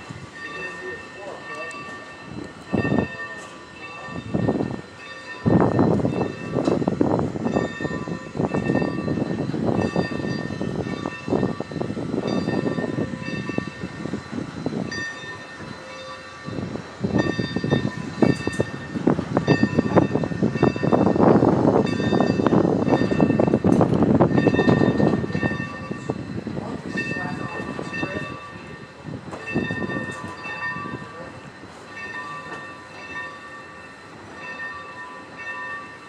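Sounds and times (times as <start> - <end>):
train cars rattling and clattering: 0.0 - 36.0.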